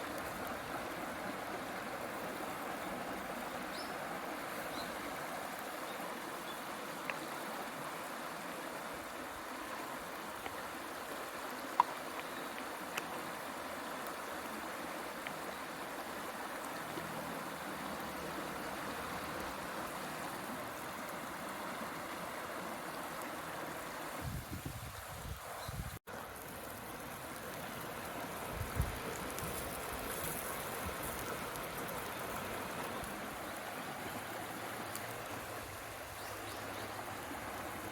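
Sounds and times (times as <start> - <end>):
river flowing: 0.0 - 37.9.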